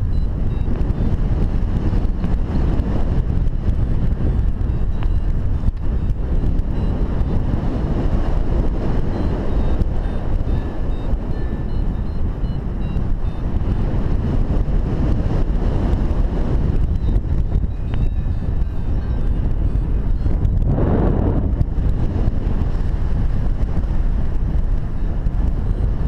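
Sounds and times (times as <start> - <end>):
heavy wind rush on microphone: 0.0 - 26.0.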